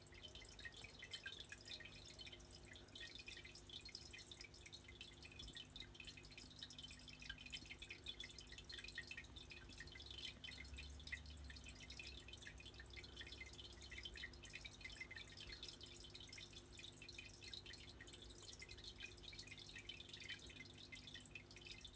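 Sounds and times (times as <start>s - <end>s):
low steady hum: 0.0s - 21.9s
water dripping and trickling: 0.0s - 21.9s.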